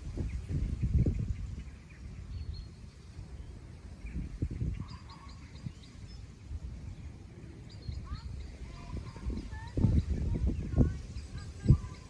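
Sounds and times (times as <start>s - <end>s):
wind rumble on microphone: 0.0s - 12.0s
faint bird chirps: 0.1s - 12.0s.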